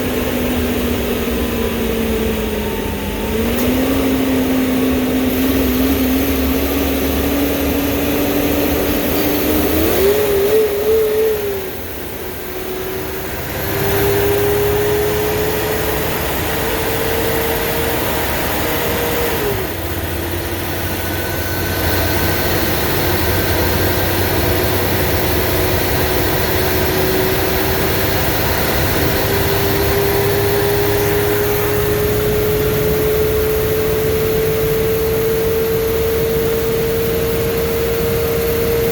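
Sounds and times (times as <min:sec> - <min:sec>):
bus engine whine: 0:00.0 - 0:38.9.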